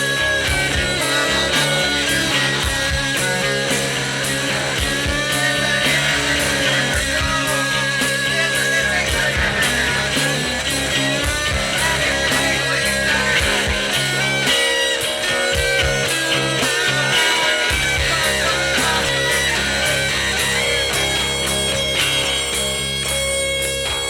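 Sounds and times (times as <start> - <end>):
rock song with guitar and drums: 0.0 - 24.0.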